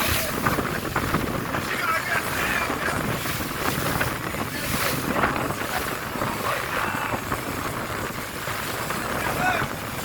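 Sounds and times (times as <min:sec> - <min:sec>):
wash of water: 0:00.0 - 0:10.0
wind buffeting microphone: 0:00.0 - 0:10.0.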